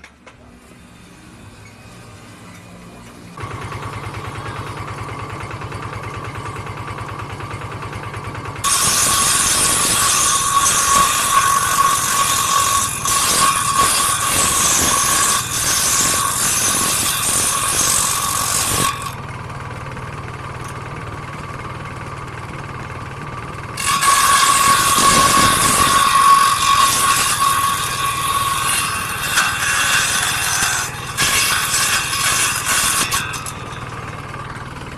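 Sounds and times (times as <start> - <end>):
power saw cutting wood: 0.5 - 34.9.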